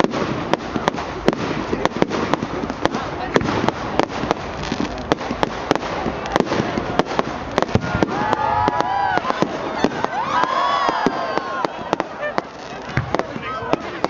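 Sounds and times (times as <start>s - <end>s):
fireworks cracking and popping: 0.0s - 14.0s.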